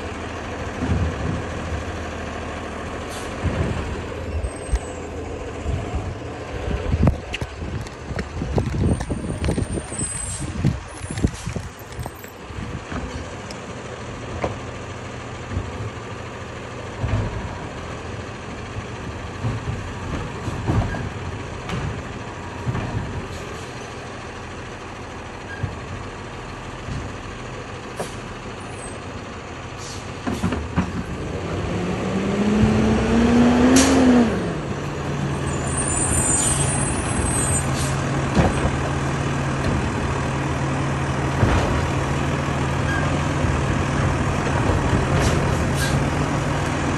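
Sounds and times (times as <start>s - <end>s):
garbage truck diesel engine: 0.0s - 46.9s.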